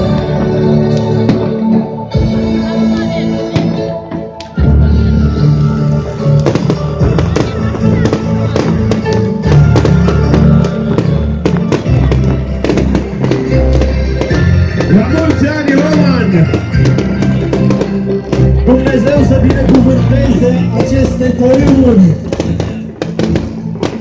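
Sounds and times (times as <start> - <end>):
fireworks bangs and crackles: 0.0 - 2.4, 3.5 - 24.0
loud music with strong bass: 0.0 - 24.0.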